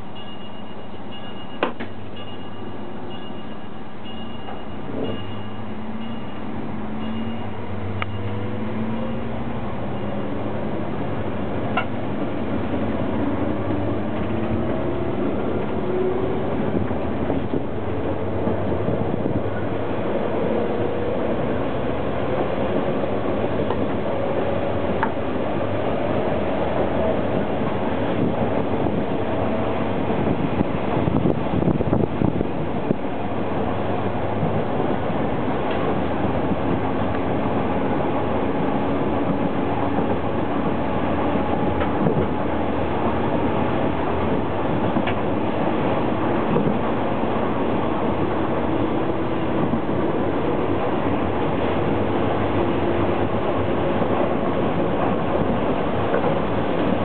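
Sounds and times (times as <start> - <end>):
diesel engine drone: 0.0 - 57.0
train wheels on rails: 0.0 - 57.0.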